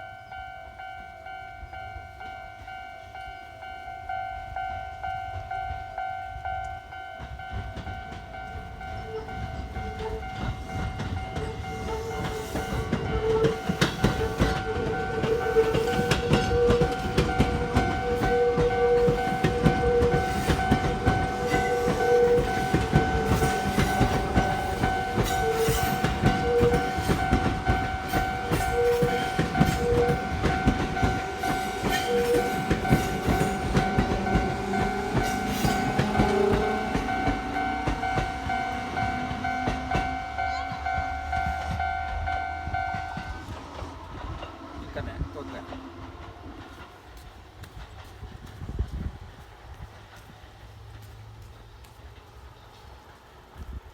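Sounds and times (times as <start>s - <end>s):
two-tone crossing signal ringing: 0.0s - 46.1s
train wheels clattering: 5.3s - 53.9s.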